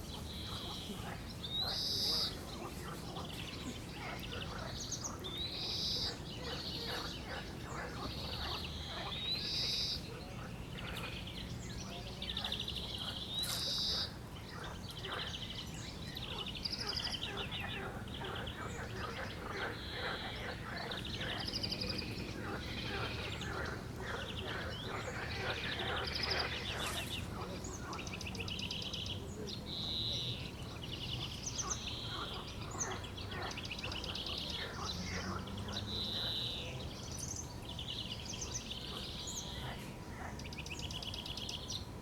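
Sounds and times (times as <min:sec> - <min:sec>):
frogs croaking: 0:00.0 - 0:37.2, 0:37.9 - 0:42.0.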